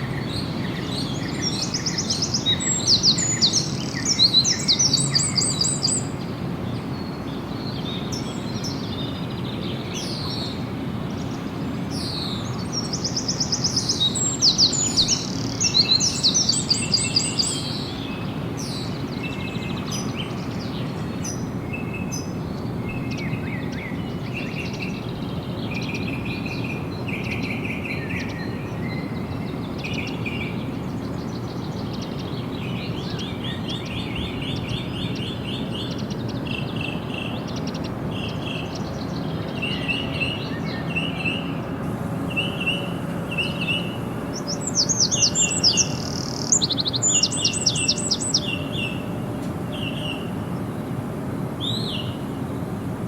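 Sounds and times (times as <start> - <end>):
birds chirping: 0.0 - 53.0
birds singing trilled song: 0.0 - 53.0.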